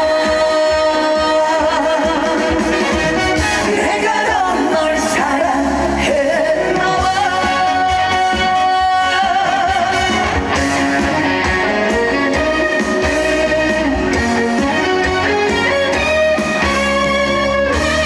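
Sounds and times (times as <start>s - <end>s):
band playing trot music: 0.0s - 18.0s.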